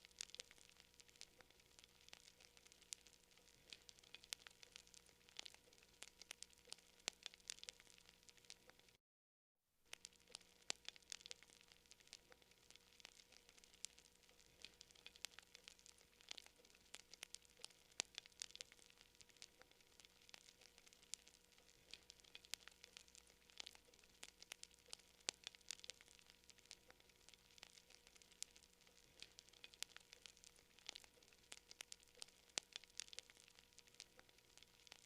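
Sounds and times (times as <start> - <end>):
campfire crackling: 0.0 - 9.0, 9.9 - 35.0.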